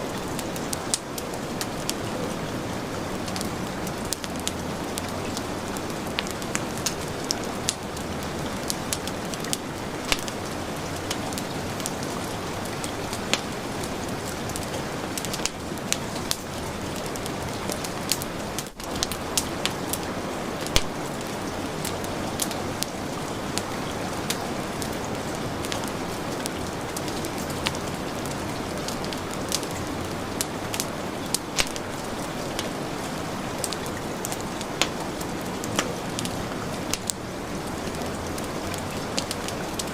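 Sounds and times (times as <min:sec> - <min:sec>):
heavy rain hissing: 0:00.0 - 0:39.9
wood fire crackling and popping: 0:00.0 - 0:39.9.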